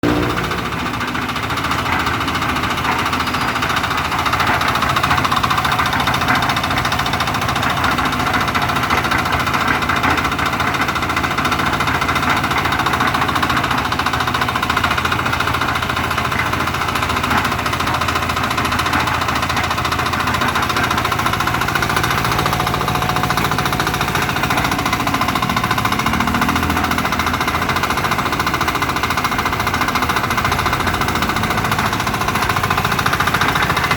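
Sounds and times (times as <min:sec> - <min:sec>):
concrete mixer engine rattling: 0:00.0 - 0:33.9.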